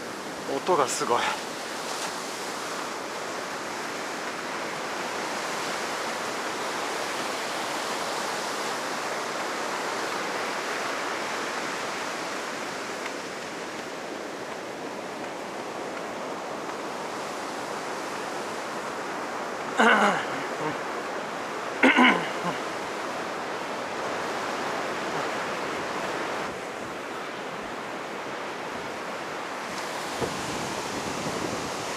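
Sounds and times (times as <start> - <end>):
heavy surf breaking on beach: 0.0 - 31.9.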